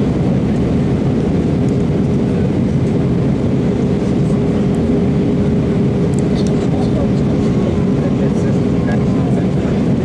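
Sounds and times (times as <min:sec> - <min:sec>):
airliner cabin noise: 0:00.0 - 0:10.0.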